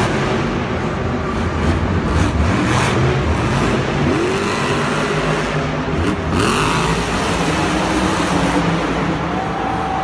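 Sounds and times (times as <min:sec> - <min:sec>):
truck engines revving hard: 0:00.0 - 0:10.0.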